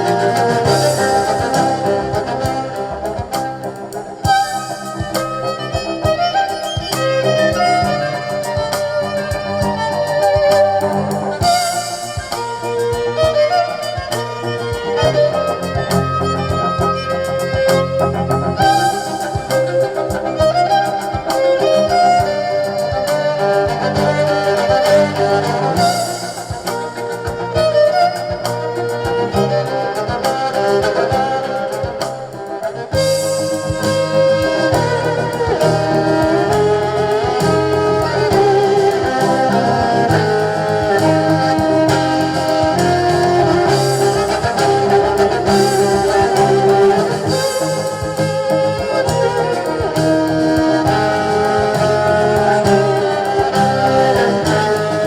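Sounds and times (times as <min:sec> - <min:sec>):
bass: 0:00.0 - 0:55.0
drums: 0:00.0 - 0:55.0
sustained melody line: 0:00.0 - 0:55.0.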